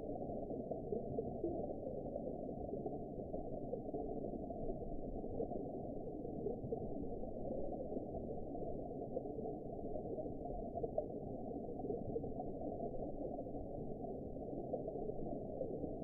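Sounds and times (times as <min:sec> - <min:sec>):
muffled underwater rumble and wash: 0:00.0 - 0:16.0.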